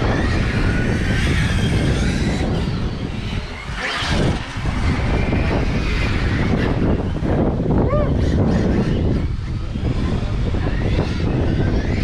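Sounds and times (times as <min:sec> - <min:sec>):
rc car motors whining: 0:00.0 - 0:12.0
steady low rumble: 0:00.0 - 0:12.0.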